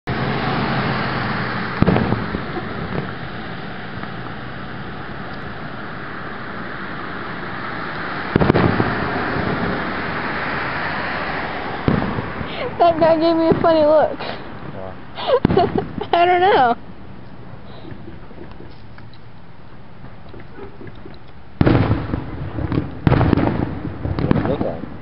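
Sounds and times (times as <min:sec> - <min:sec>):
steady background noise: 0:00.0 - 0:25.0
fireworks booming: 0:00.1 - 0:18.9, 0:20.0 - 0:25.0.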